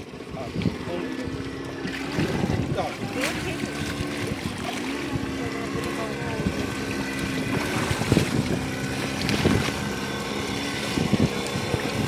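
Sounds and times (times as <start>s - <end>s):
outboard motor droning: 0.0s - 12.0s
water splashing: 0.0s - 12.0s
wind on microphone: 0.0s - 12.0s.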